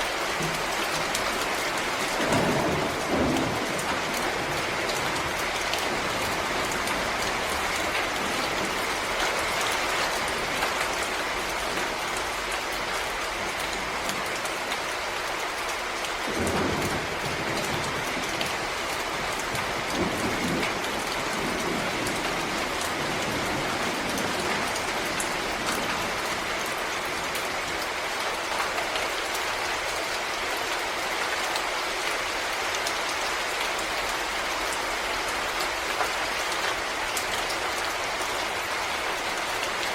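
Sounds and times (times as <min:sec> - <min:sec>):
rain falling in forest: 0:00.0 - 0:39.9
raindrops ticking close by: 0:00.0 - 0:39.9.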